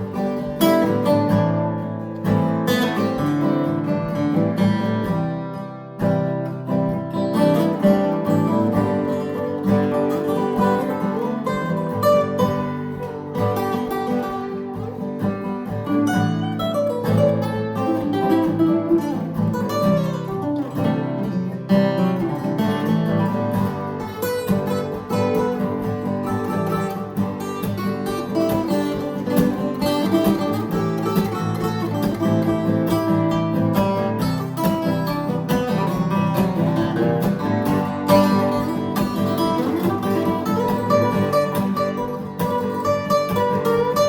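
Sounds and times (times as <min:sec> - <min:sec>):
acoustic guitar playing: 0:00.0 - 0:44.0.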